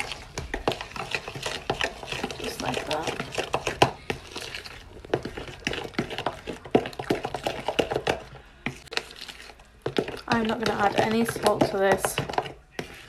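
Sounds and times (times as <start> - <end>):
spoon stirring thick marinade: 0.0 - 13.0.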